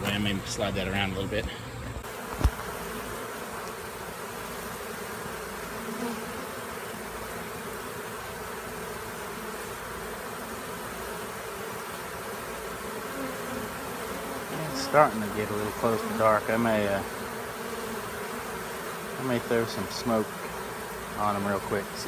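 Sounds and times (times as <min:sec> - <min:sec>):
bee swarm buzzing: 0:00.0 - 0:22.0.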